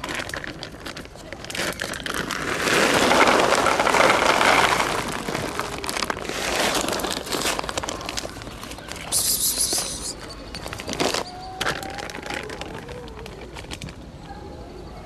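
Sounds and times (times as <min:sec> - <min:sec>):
pellets clicking and rustling: 0:00.0 - 0:14.0.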